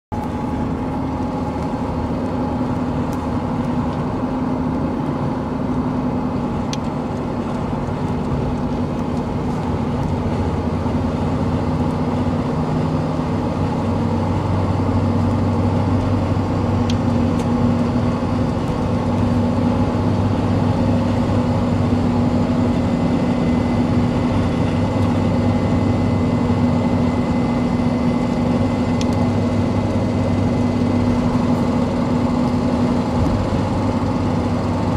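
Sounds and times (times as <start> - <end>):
diesel engine running: 0.1 - 34.9
road noise hum from tyres: 0.1 - 34.9.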